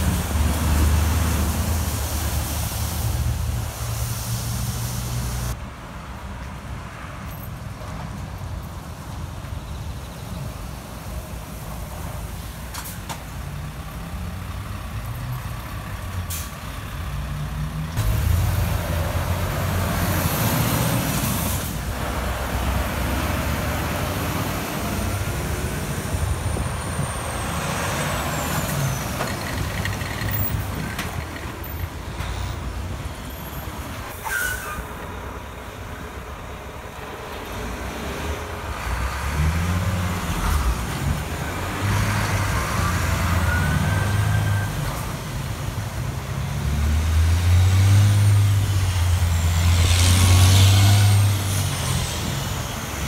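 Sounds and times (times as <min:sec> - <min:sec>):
diesel trucks passing on wet road: 0:00.0 - 0:07.2, 0:07.9 - 0:53.0.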